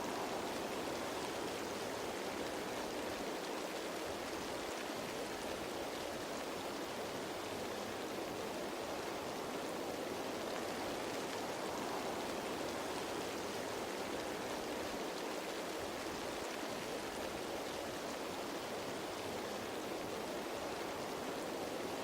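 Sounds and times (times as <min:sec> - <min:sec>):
rain on leaves: 0:00.0 - 0:22.0.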